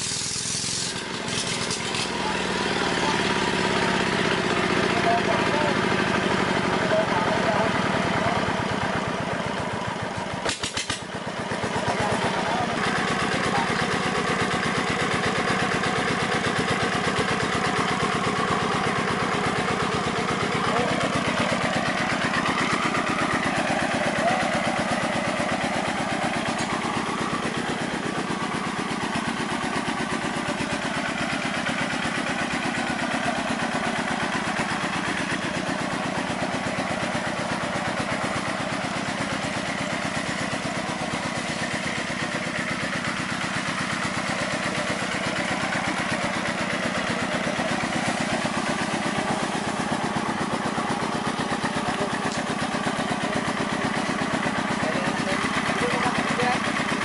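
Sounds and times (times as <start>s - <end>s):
small diesel engine running: 0.0s - 57.0s.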